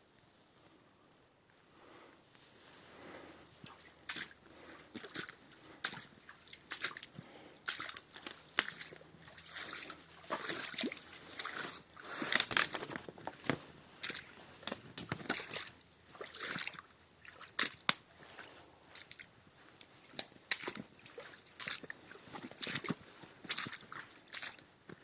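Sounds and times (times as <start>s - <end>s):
footsteps splashing through mud: 3.6s - 18.1s, 18.9s - 25.0s.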